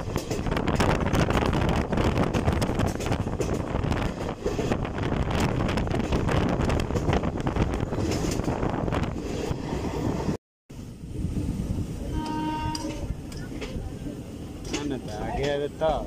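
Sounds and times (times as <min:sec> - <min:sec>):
wind buffeting microphone: 0:00.0 - 0:15.2
train wheels rumbling on rails: 0:00.0 - 0:16.0.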